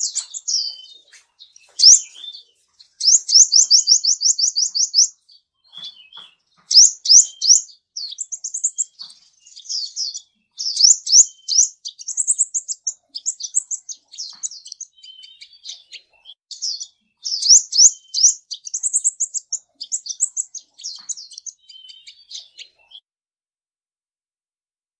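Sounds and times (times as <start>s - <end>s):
small bird chirping: 0.0s - 23.0s.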